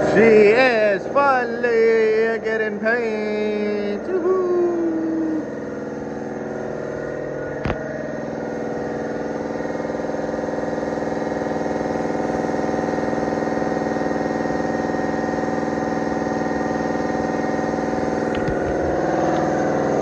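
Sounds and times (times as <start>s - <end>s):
motor running steadily: 0.0s - 20.0s.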